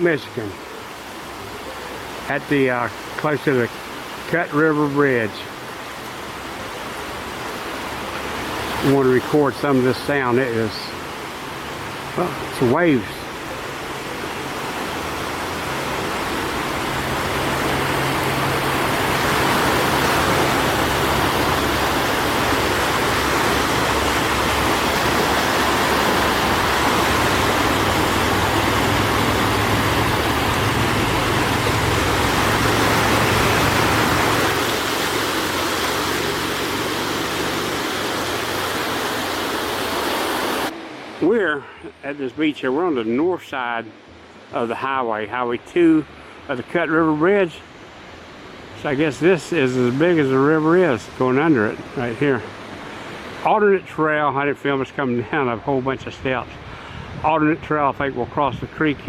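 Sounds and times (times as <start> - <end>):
waves washing onto shore: 0.0 - 41.3, 47.6 - 53.6.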